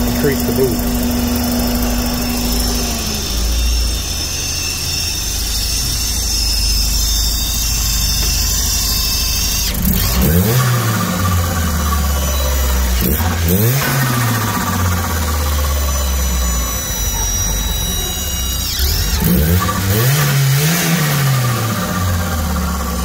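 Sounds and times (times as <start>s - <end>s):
car engine idling with whine: 0.0s - 23.0s
engine revving: 0.0s - 23.0s.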